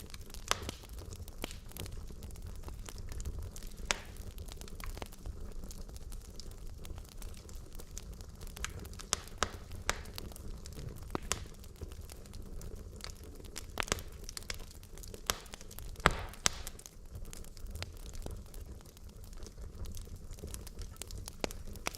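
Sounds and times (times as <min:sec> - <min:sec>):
wood logs crackling in fireplace: 0:00.0 - 0:21.9.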